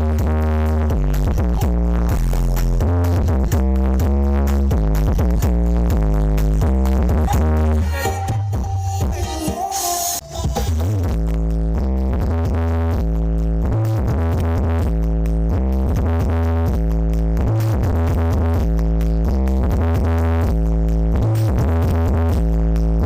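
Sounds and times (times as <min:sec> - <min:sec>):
electronic dance music: 0:00.0 - 0:23.0.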